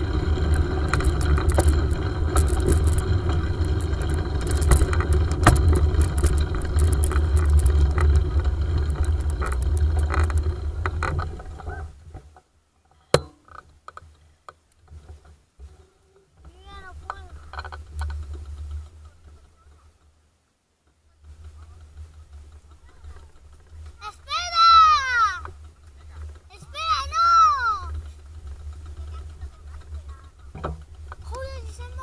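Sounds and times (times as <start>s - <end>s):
bicycle rumbling over rough path: 0.0s - 32.0s
small rattles and clicks: 0.0s - 32.0s.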